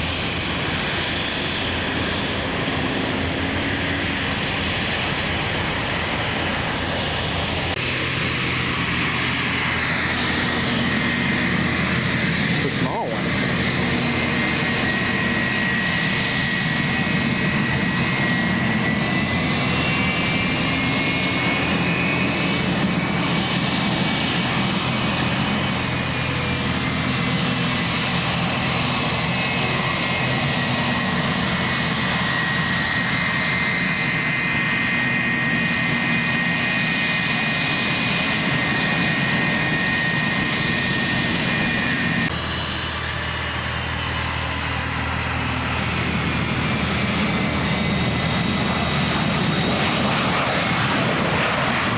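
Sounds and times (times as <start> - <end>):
aircraft engine running: 0.0 - 51.9.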